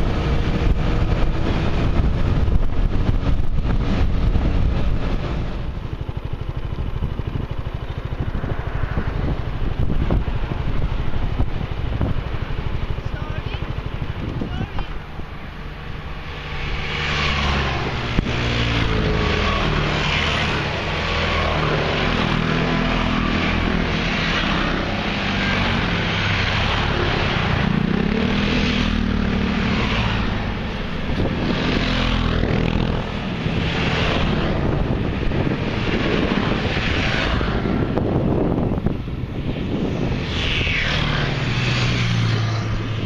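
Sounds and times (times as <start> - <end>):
scooter engines humming: 0.0 - 43.0.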